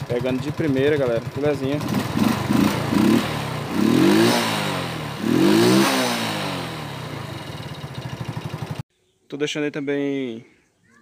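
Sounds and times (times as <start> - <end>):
scooter engine revving: 0.0 - 8.8.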